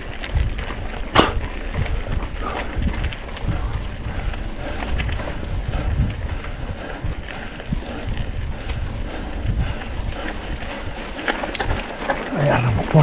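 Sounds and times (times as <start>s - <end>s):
bike rattles and clicks: 0.0s - 13.0s
bike rolling over gravel: 0.0s - 13.0s
wind buffeting the microphone: 0.0s - 13.0s.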